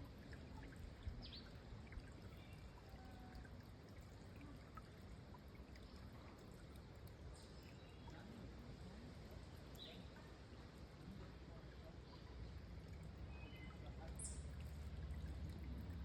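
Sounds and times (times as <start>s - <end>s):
spring water trickling: 0.0s - 16.0s.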